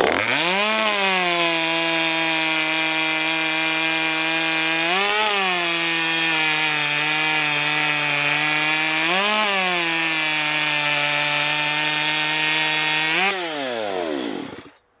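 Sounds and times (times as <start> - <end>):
chainsaw cutting wood: 0.0 - 14.8.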